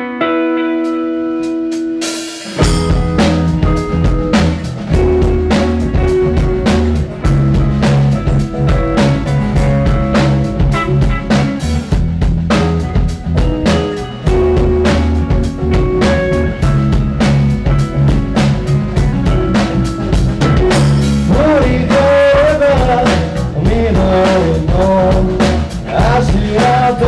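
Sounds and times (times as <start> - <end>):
drum kit beat: 0.8 - 27.0
low bass line: 2.6 - 27.0.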